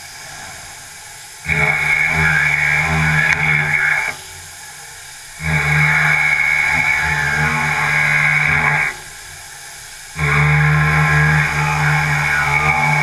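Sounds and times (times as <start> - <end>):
low machine hum: 0.0 - 13.0
milling cutter whine: 0.0 - 13.0.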